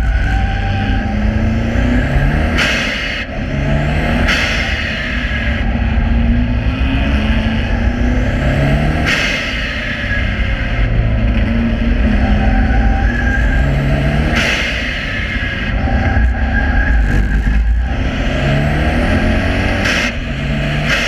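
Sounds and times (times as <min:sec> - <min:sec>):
car engine accelerating hard: 0:00.0 - 0:21.0
road and wind noise: 0:00.0 - 0:21.0.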